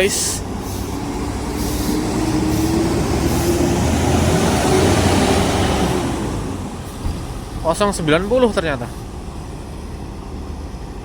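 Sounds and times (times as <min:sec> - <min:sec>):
bus engine rumble and whine: 0:00.0 - 0:11.0.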